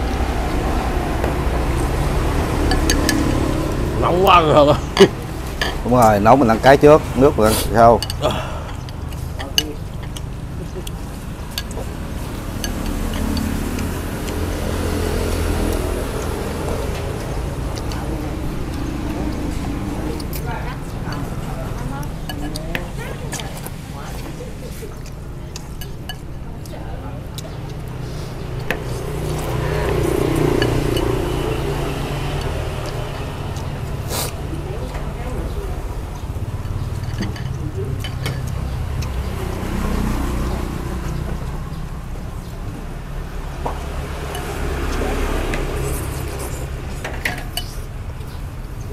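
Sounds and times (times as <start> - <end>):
vehicle engine rumbling: 0.0 - 48.9
chopsticks clinking on bowls: 2.5 - 3.9, 4.5 - 39.6, 43.7 - 48.9.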